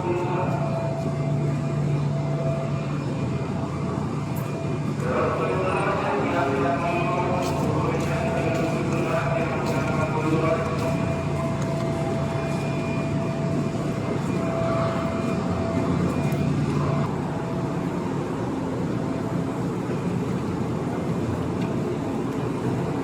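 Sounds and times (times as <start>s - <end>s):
electric train drone and whine: 0.0s - 23.0s.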